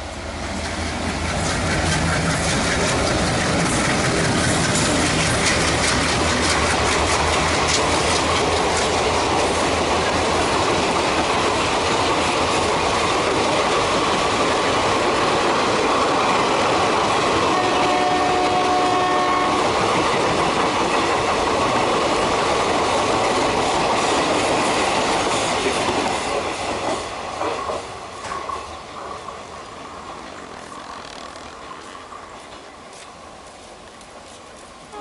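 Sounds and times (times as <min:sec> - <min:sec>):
train wheels clattering over rail joints: 0:00.5 - 0:29.5.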